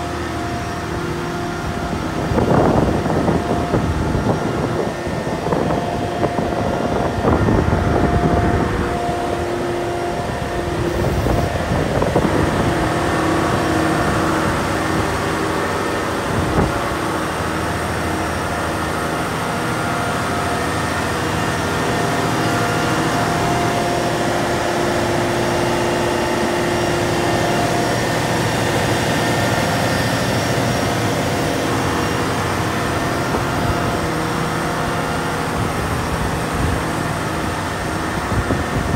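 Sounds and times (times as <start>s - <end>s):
diesel engine idling: 0.0s - 38.9s
wind buffeting microphone: 0.0s - 38.9s.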